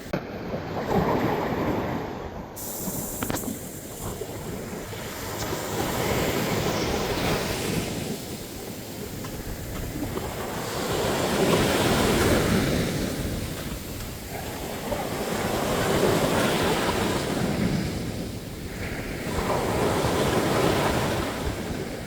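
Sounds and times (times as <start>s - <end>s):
sea waves breaking on beach: 0.0s - 22.0s.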